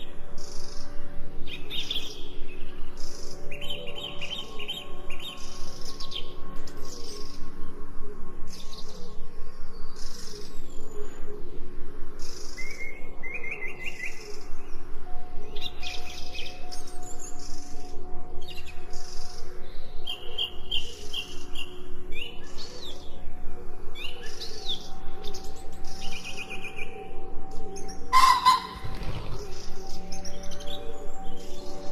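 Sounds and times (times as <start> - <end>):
songbirds chirping: 0.0 - 31.9.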